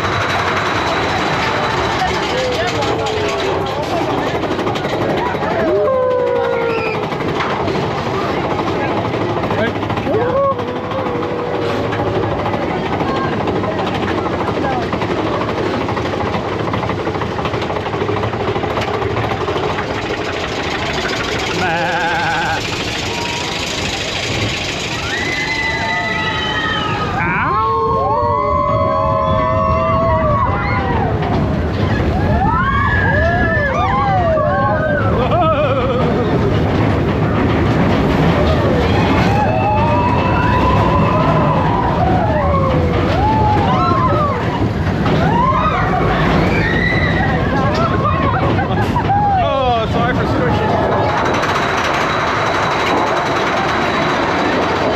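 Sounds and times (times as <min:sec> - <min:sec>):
wheels squealing: 0:00.0 - 0:15.8, 0:18.0 - 0:27.6, 0:28.3 - 0:54.9
roller coaster rumbling and rattling: 0:00.0 - 0:54.9
wind: 0:00.0 - 0:54.9.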